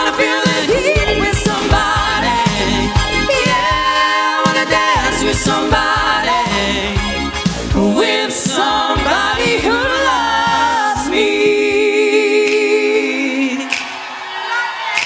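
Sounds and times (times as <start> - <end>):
amplified backing music: 0.0 - 13.9
voices singing in harmony: 0.0 - 15.0.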